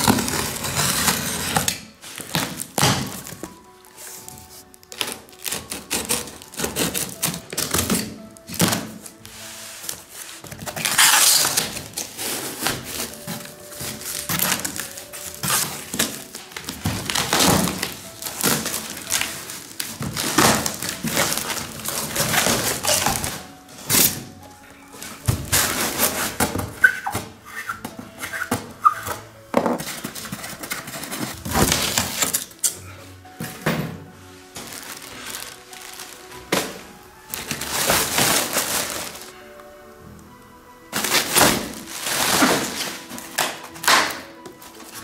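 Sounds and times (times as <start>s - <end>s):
cardboard tearing and rustling: 0.0s - 24.3s, 24.9s - 32.7s, 34.5s - 39.4s, 40.9s - 45.0s
packing tape scraping: 0.0s - 32.8s, 34.5s - 39.4s, 40.9s - 45.0s
quiet background music: 0.0s - 45.0s.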